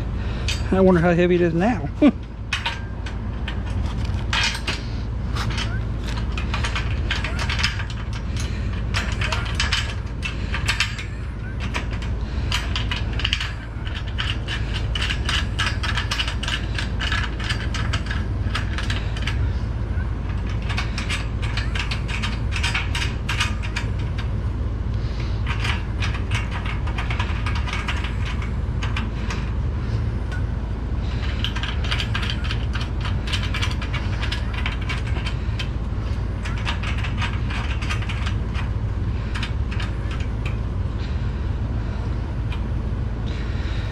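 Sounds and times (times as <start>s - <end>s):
constant low hum: 0.0s - 43.9s
small metal parts clattering: 0.3s - 19.5s, 20.2s - 24.4s, 25.2s - 29.6s, 31.1s - 40.6s.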